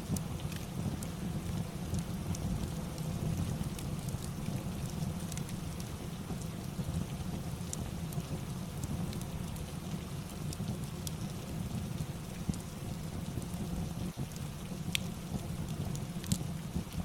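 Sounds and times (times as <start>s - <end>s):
fireplace crackling: 0.0s - 17.0s
steady rain: 0.0s - 17.0s.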